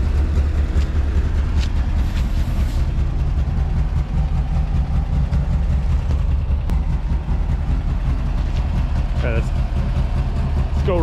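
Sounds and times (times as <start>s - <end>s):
car engine idling lumpily: 0.0s - 11.0s.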